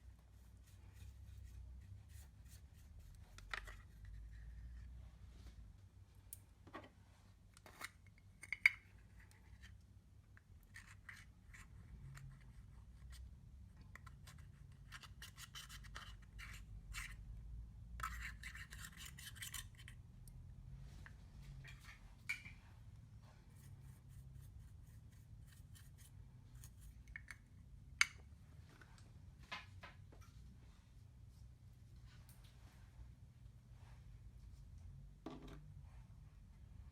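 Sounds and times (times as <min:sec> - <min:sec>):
faint scraping and scratching: 0:00.0 - 0:05.8, 0:06.7 - 0:09.9, 0:10.6 - 0:27.4, 0:28.4 - 0:36.9.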